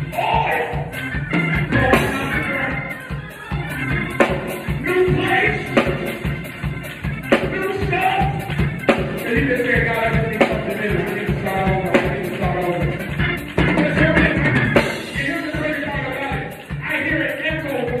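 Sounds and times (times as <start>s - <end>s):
up-tempo gospel music with singing: 0.0s - 18.0s.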